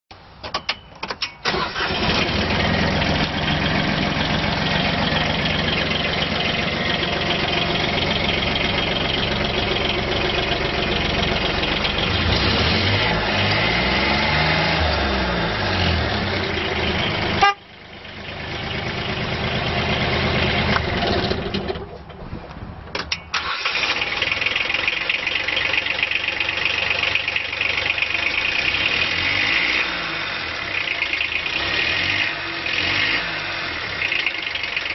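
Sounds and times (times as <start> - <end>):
diesel engine running and revving: 1.5 - 22.0, 23.4 - 34.9.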